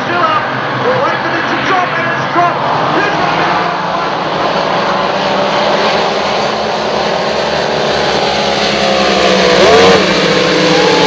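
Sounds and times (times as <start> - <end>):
engine revving: 0.0 - 11.0
racing engines running hard: 0.0 - 11.0.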